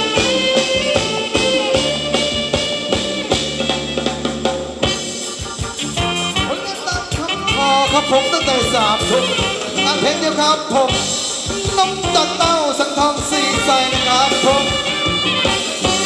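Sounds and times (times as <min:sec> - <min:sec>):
live band dance music: 0:00.0 - 0:16.0
steady drum beat: 0:00.0 - 0:16.0.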